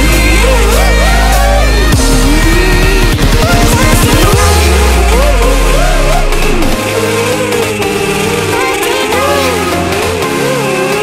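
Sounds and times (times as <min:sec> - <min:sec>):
electronic music with synth melody: 0:00.0 - 0:11.0.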